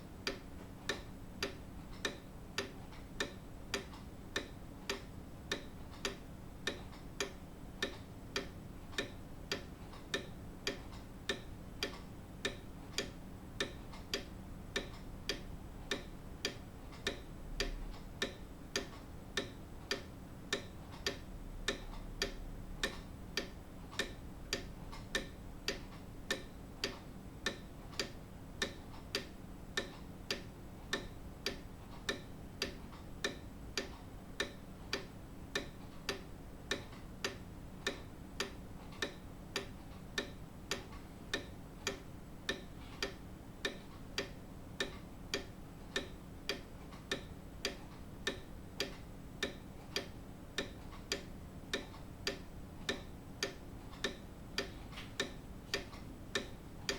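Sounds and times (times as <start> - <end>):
clock ticking: 0.0 - 56.9.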